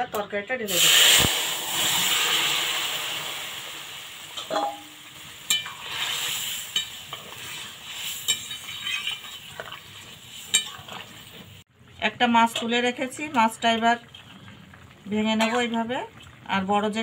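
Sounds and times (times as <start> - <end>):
curry sizzling in hot oil: 0.7 - 17.0.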